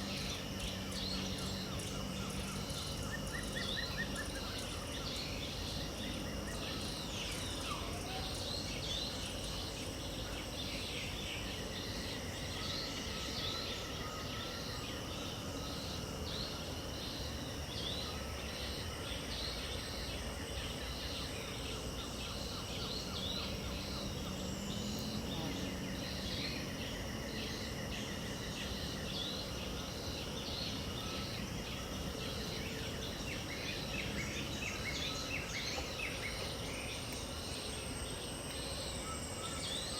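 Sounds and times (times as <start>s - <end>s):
birds calling and trilling: 0.0s - 39.9s
insects droning: 0.0s - 39.9s.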